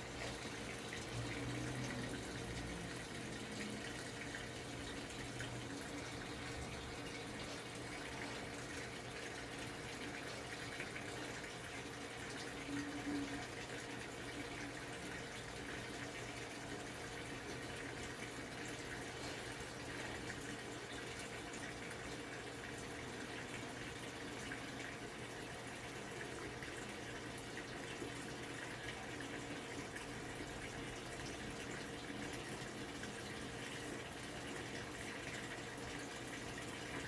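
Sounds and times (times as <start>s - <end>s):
water running into tub: 0.0s - 37.0s.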